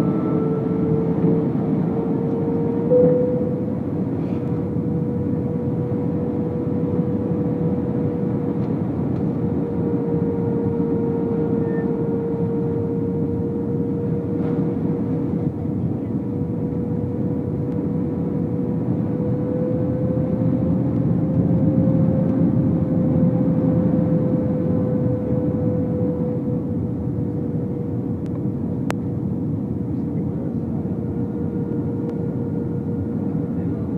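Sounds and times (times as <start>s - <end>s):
aircraft cabin engine and air noise: 0.0s - 33.9s
engine whine: 0.0s - 33.9s.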